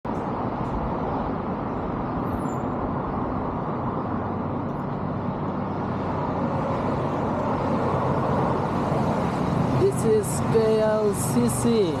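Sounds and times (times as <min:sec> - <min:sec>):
highway traffic: 0:00.0 - 0:12.0.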